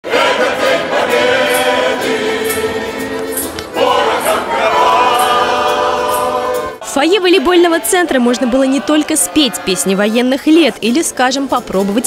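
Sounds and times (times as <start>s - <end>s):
group of voices singing: 0.0s - 10.2s.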